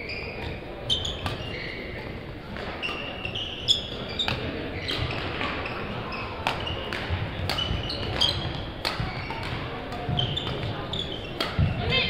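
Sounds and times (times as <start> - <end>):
shoes squeaking on sports floor: 0.0 - 12.0
racquet striking shuttlecock: 0.3 - 5.8, 6.4 - 11.8.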